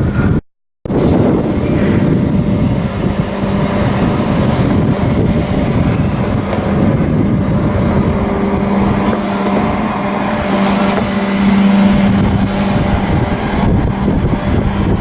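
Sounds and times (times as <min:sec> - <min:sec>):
engine machinery drone: 0:00.0 - 0:15.0
low hum: 0:00.9 - 0:15.0.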